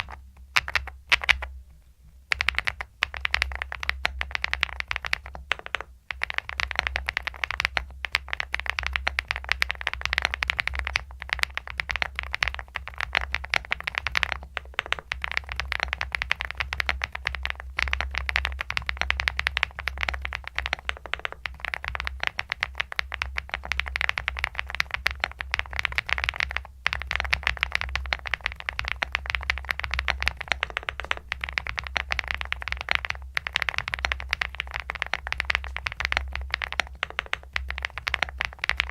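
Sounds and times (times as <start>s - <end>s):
typing on mechanical keyboard: 0.0s - 1.5s, 2.3s - 38.9s.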